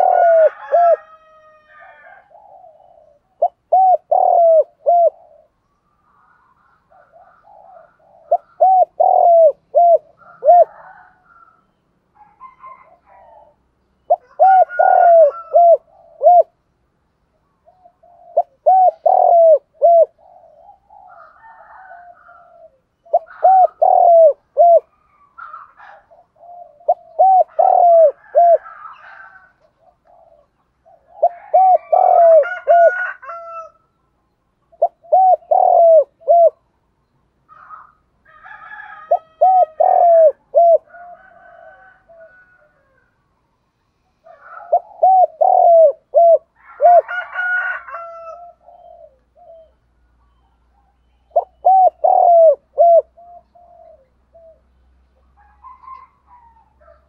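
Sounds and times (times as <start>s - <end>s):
dove cooing: 0.0s - 16.6s, 17.6s - 33.8s, 34.6s - 36.7s, 37.4s - 43.2s, 43.8s - 57.0s.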